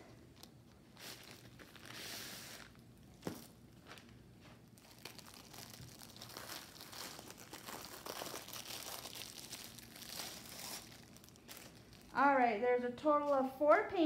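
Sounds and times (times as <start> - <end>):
plastic packaging crinkling: 0.2 - 12.3.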